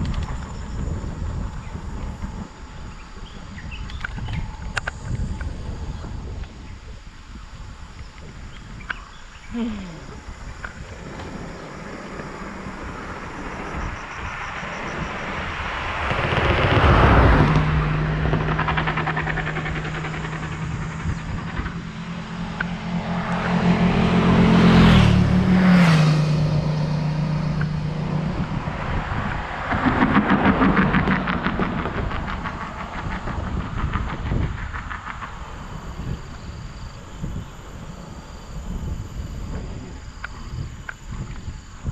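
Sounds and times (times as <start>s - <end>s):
engine drone shifting in pitch: 0.0s - 41.3s
vehicles passing on a road: 0.0s - 41.9s.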